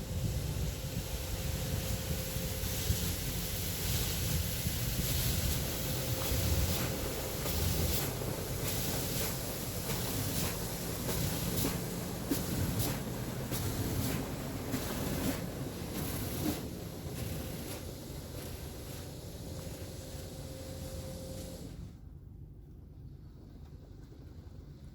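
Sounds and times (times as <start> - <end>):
car wash spray rushing: 0.0 - 21.9.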